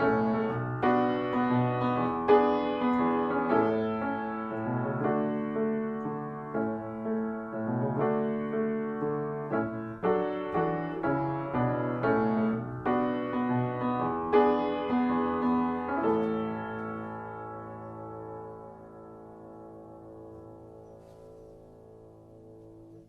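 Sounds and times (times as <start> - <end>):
slow piano piece: 0.0 - 23.0.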